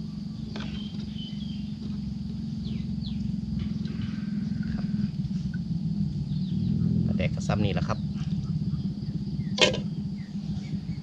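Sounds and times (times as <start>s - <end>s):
low motor-like rumble: 0.0s - 11.0s.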